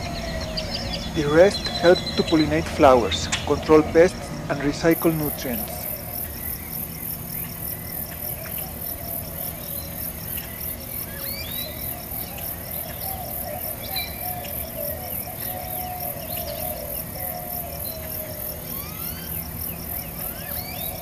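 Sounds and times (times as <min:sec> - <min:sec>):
insect-like chirping: 0:00.0 - 0:21.0
low musical drone: 0:00.0 - 0:21.0.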